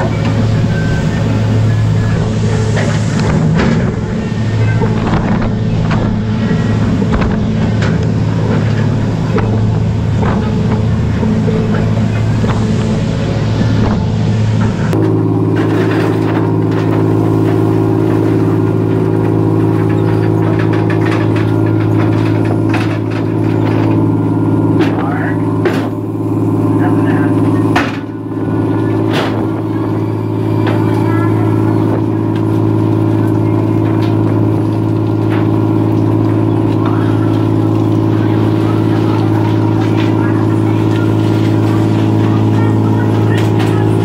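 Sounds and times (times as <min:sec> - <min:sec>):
boat engine droning: 0:00.0 - 0:44.0.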